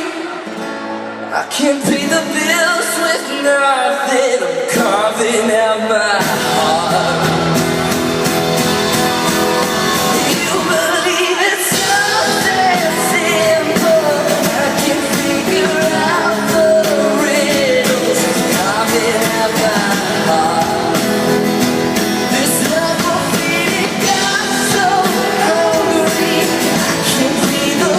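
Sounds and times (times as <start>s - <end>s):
drums: 0.0s - 27.9s
guitar: 0.0s - 27.9s
person singing lead vocal: 0.0s - 27.9s.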